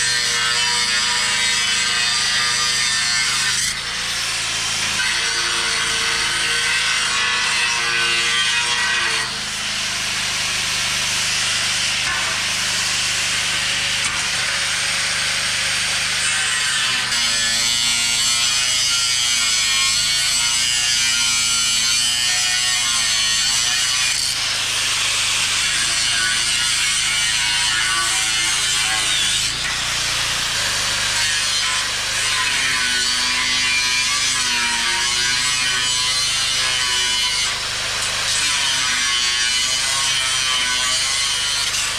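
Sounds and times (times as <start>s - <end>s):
angle grinder cutting metal: 0.0s - 41.9s.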